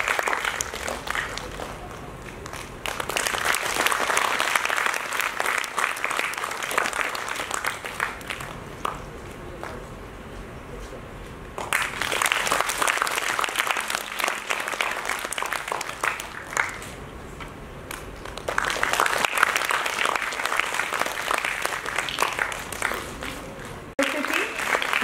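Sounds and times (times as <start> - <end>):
audience applauding: 0.0 - 9.8, 11.6 - 17.0, 17.9 - 25.0.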